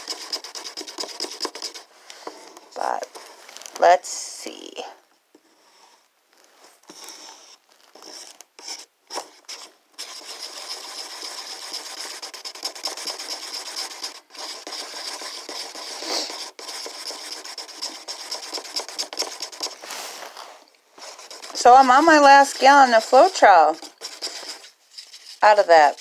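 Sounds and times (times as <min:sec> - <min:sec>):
stick stirring paint in paper cup: 0:00.0 - 0:03.4, 0:06.8 - 0:26.0.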